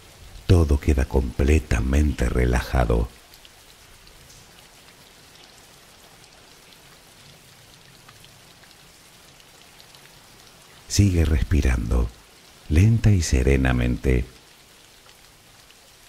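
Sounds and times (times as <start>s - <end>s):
steady rain patter: 0.0s - 16.0s.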